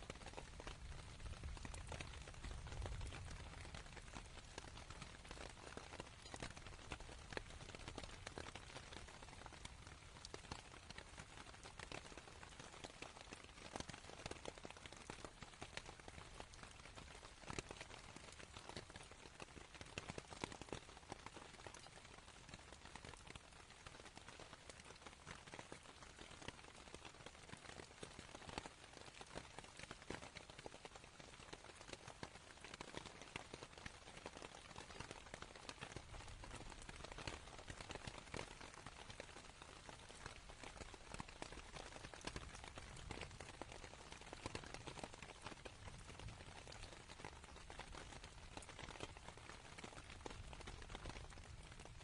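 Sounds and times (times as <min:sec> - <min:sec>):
rain pattering on a tent: 0:00.0 - 0:52.0.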